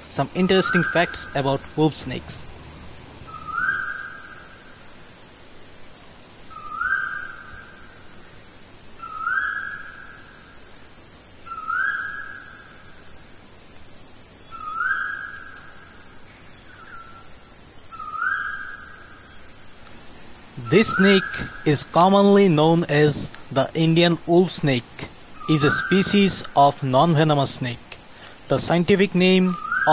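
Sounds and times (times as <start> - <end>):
high-pitched insect drone: 0.0 - 13.4, 14.0 - 29.9.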